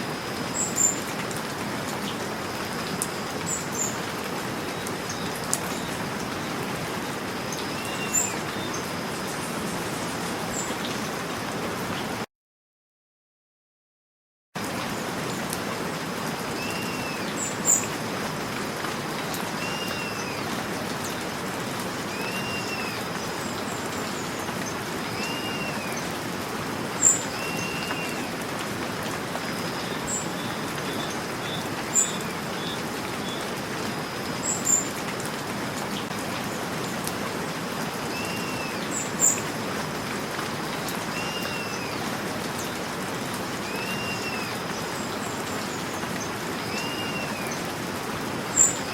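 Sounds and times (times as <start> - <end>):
steady rain falling: 0.0 - 12.3, 14.6 - 48.9.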